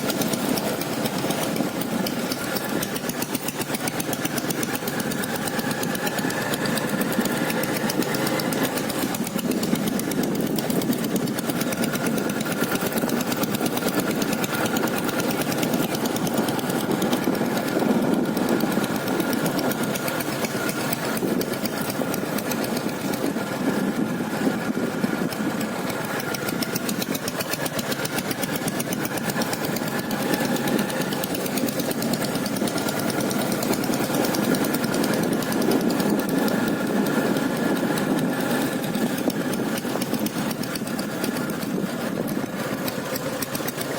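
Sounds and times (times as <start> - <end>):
motorcycle diesel engine running: 0.0 - 43.9.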